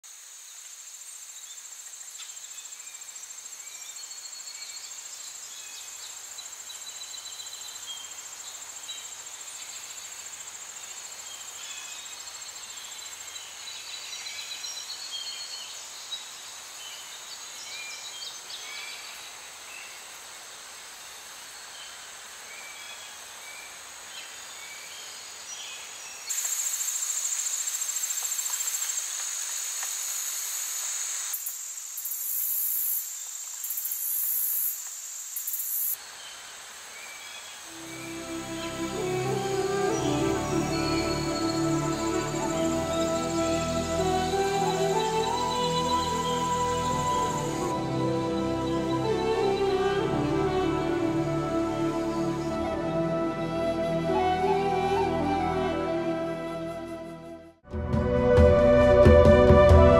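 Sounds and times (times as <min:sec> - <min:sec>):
insects droning: 0:00.0 - 0:57.0
short insect chirps: 0:00.1 - 0:49.0.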